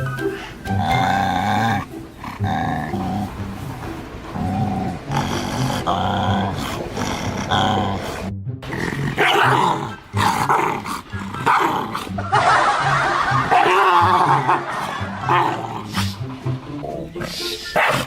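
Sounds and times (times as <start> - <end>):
dog barking and growling: 0.2 - 16.4, 17.2 - 18.0.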